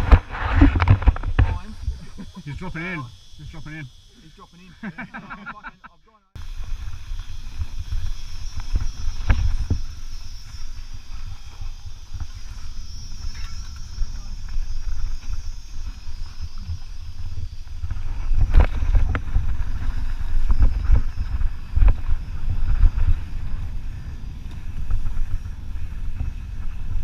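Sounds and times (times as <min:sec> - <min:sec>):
wind on microphone: 0:00.0 - 0:02.4, 0:06.4 - 0:27.0.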